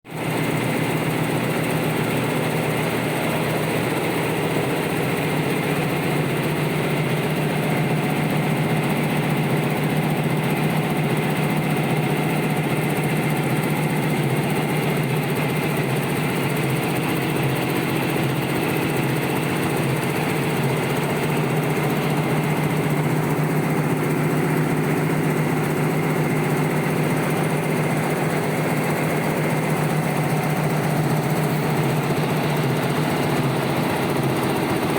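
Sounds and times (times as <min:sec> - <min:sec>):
knitting machine running: 0:00.2 - 0:34.9.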